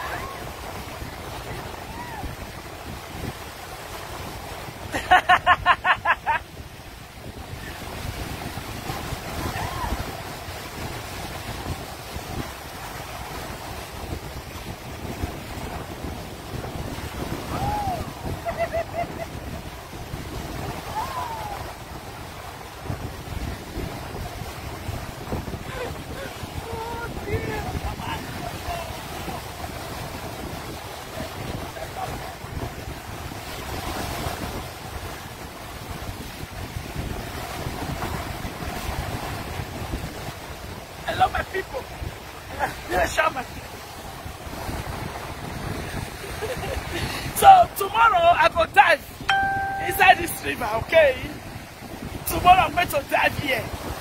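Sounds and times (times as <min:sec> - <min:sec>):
wind buffeting microphone: 0:00.0 - 0:49.3, 0:50.1 - 0:54.0
small waves breaking: 0:00.0 - 0:54.0.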